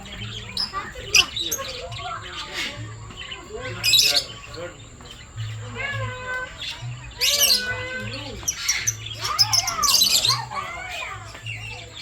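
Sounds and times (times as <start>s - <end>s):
aviary birds calling: 0.0s - 12.0s.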